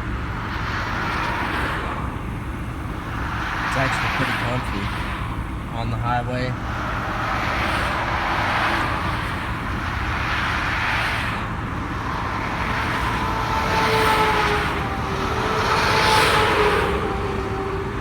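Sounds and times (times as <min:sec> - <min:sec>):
road and wind noise: 0:00.0 - 0:18.0.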